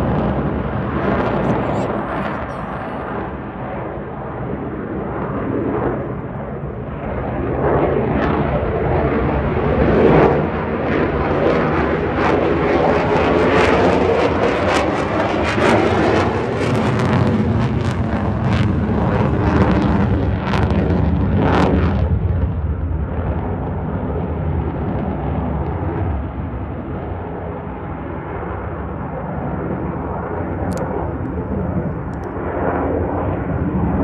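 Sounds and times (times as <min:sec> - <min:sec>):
jet engine roaring overhead: 0:00.0 - 0:34.0.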